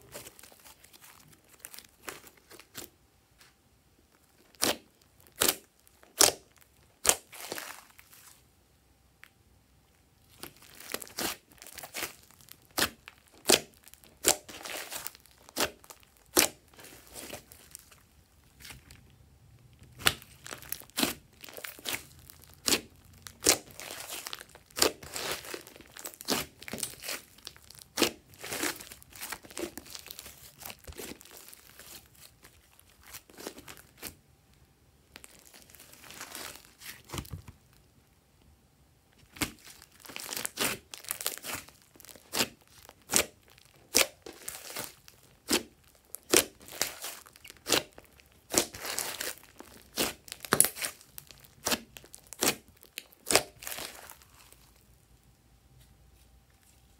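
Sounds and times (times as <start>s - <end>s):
hands squishing slime: 0.0s - 2.9s, 4.3s - 8.4s, 10.3s - 19.2s, 19.8s - 34.2s, 35.1s - 37.6s, 39.2s - 54.8s.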